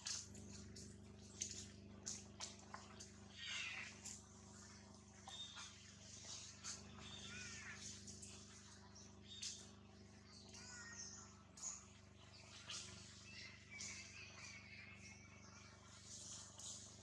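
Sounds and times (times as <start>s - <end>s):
steady low hum: 0.0s - 17.0s
faint high chirps and squeaks: 0.8s - 17.0s.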